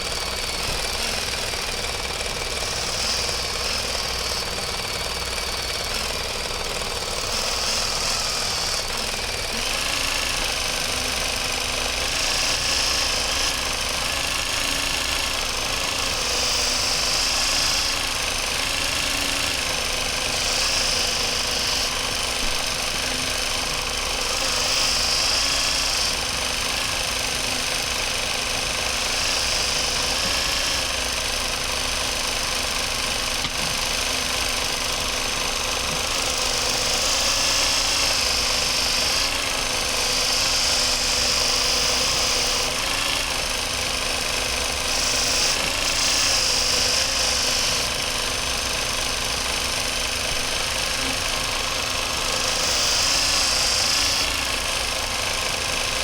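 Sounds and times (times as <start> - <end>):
knife sharpener motor running: 0.0 - 56.0.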